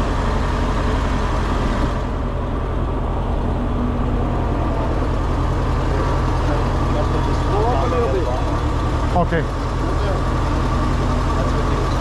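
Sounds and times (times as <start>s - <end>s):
truck diesel engine chugging: 0.0s - 12.0s.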